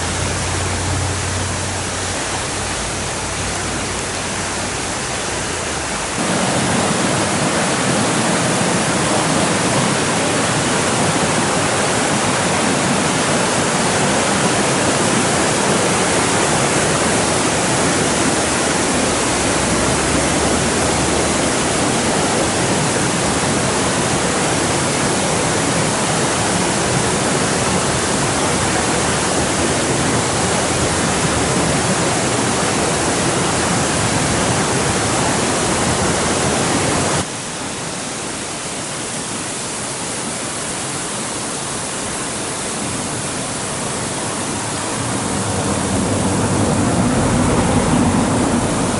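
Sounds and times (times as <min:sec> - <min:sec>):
rushing stream and waterfall: 0:00.0 - 0:48.9.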